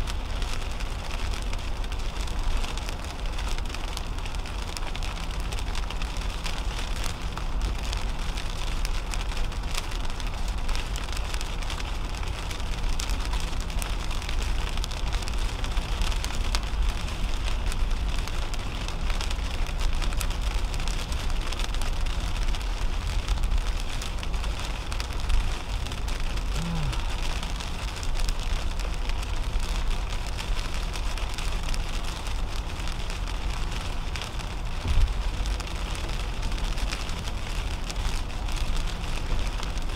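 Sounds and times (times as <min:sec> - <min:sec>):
rain drops on car windshield: 0:00.0 - 0:39.9
tyres rumbling on wet road: 0:00.0 - 0:39.9.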